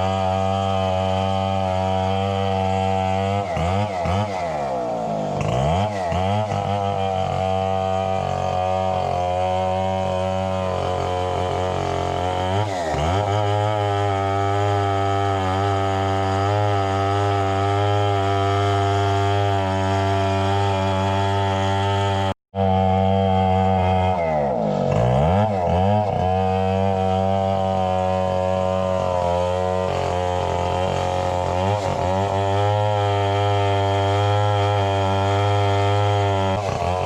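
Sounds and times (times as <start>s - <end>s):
two-stroke chainsaw running: 0.0s - 37.0s.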